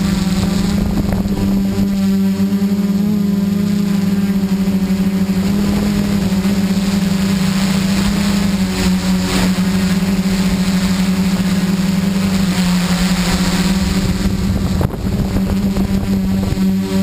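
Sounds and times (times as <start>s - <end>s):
drone propellers humming: 0.0s - 17.0s
rush of noise: 0.0s - 17.0s.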